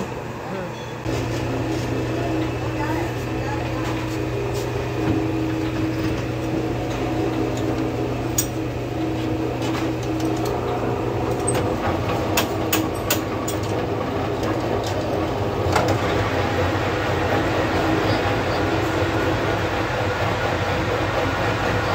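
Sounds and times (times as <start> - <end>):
workshop machinery hum: 0.0 - 21.9.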